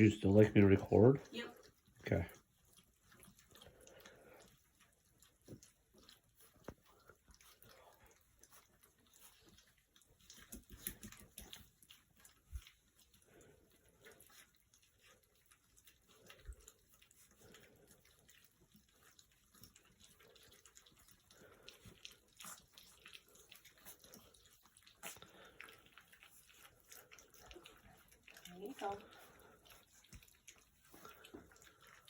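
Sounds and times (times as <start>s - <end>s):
puppies lapping food: 0.0s - 32.0s.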